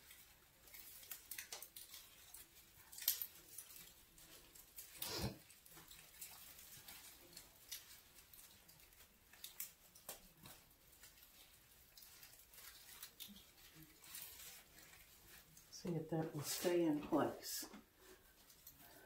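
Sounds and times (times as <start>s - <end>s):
greenery and ribbon rustling: 0.0s - 19.0s.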